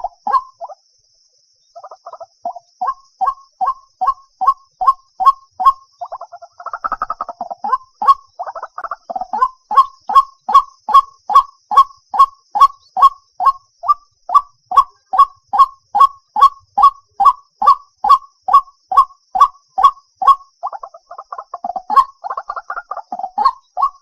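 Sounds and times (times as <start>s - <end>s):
waterhen chattering: 0.0s - 0.8s, 1.8s - 18.2s, 19.4s - 24.0s.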